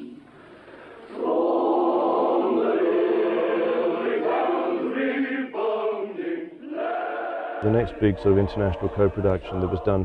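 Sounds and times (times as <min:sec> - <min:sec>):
choir chanting held notes: 0:00.0 - 0:10.0.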